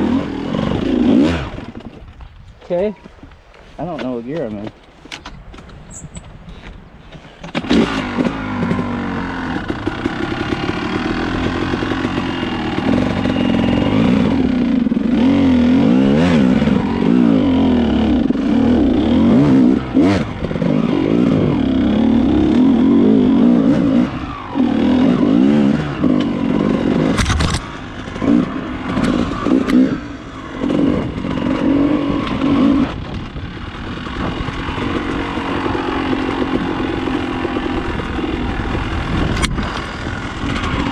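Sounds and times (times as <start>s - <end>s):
dirt bike engine revving: 0.0s - 1.9s, 7.6s - 40.9s.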